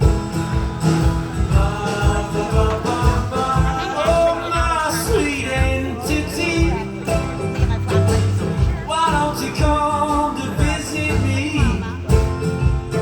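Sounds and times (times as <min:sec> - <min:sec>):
live band playing folk song: 0:00.0 - 0:13.0.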